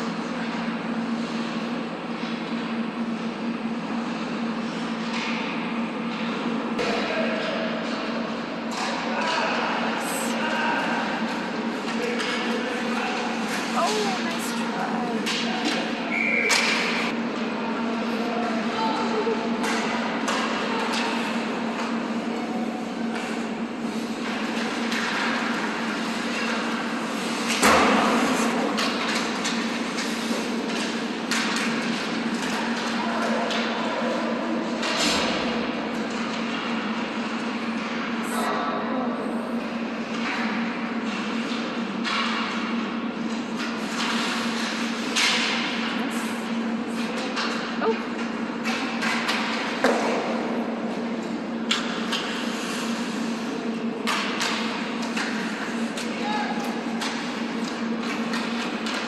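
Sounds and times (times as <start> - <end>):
hockey sticks and pucks clacking: 4.1 - 9.3, 10.9 - 17.5, 19.6 - 38.1, 40.0 - 45.9, 47.0 - 59.0.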